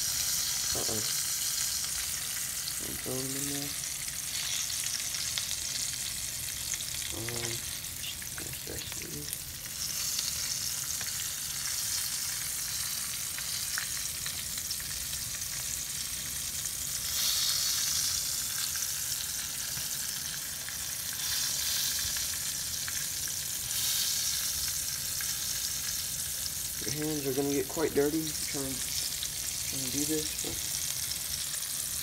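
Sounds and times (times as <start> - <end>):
fish deep-frying in oil: 0.0 - 32.0.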